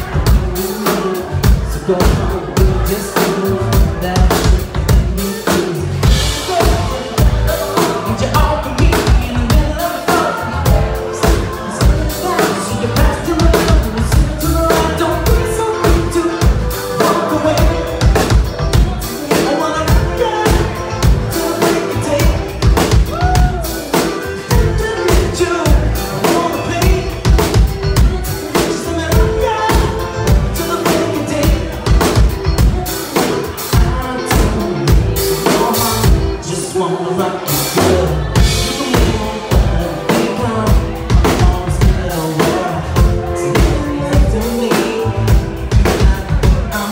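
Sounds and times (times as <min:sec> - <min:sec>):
drum kit steady beat: 0:00.0 - 0:46.9
live band playing: 0:00.0 - 0:46.9.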